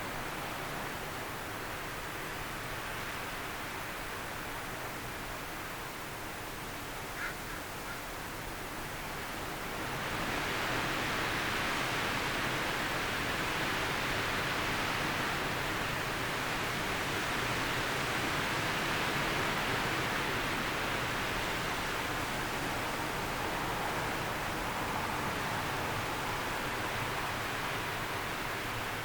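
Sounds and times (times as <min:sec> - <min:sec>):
storm wind rushing through trees: 0:00.0 - 0:29.0.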